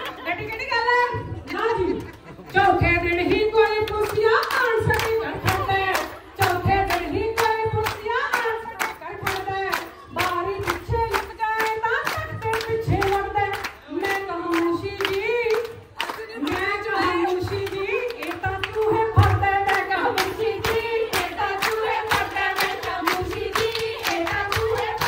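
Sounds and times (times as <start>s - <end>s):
rhythmic hand-clapping: 0.0s - 25.0s
women singing: 2.5s - 25.0s.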